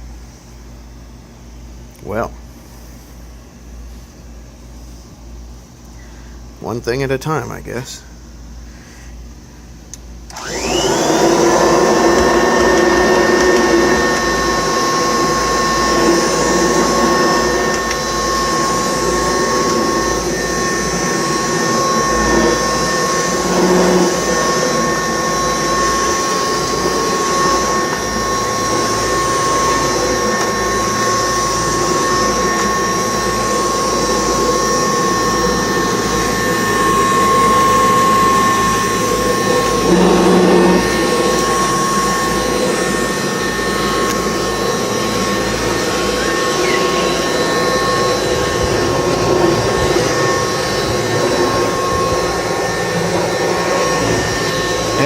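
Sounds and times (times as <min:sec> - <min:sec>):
vacuum cleaner motor whining: 0:10.0 - 0:55.0.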